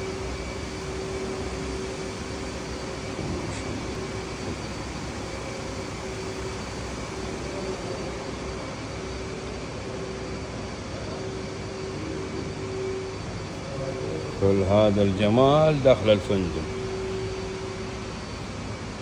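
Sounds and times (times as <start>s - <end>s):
air conditioning hum and hiss: 0.0s - 19.0s
faint steady tones: 0.0s - 19.0s.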